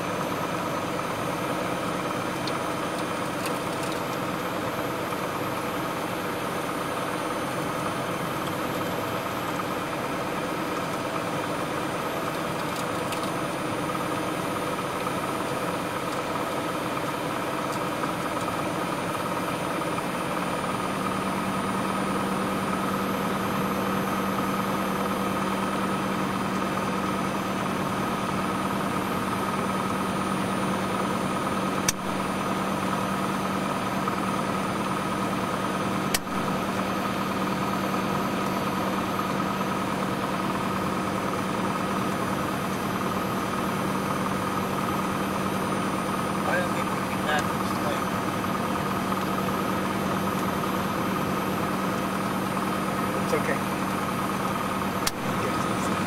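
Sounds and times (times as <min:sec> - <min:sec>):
airplane engine in cabin: 0:00.0 - 0:56.0.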